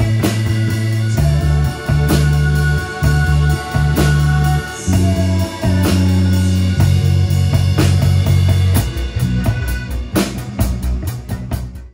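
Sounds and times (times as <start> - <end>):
bass guitar low notes: 0.0 - 11.9
drum kit: 0.0 - 11.9.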